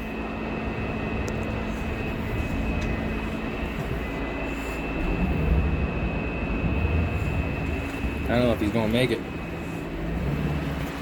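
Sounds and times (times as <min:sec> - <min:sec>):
vehicle engine droning under load: 0:00.0 - 0:11.0.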